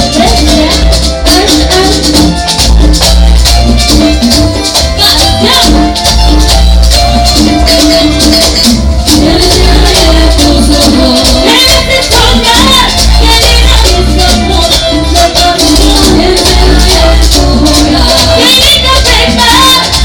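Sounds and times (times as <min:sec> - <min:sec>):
latin dance band playing: 0:00.0 - 0:20.0
maracas shaking: 0:00.0 - 0:20.0.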